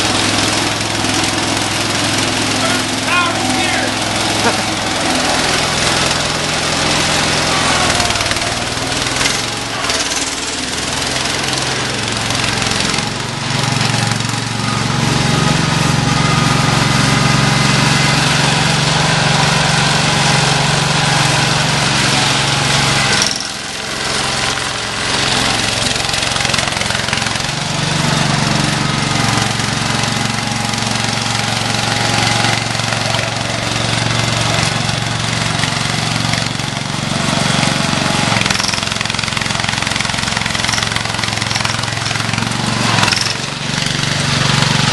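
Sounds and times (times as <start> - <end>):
garden tractor engine running: 0.0 - 44.9.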